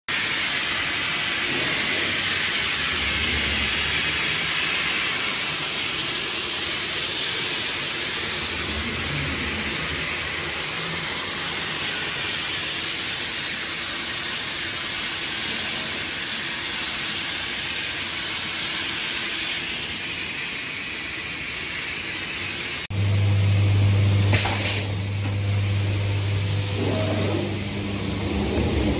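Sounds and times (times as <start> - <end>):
machine hissing: 0.1 - 23.1, 23.9 - 28.9.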